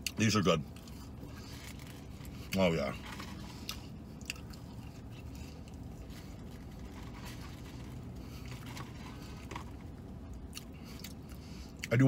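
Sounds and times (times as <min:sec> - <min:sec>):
vehicle cabin hum: 0:00.0 - 0:12.0.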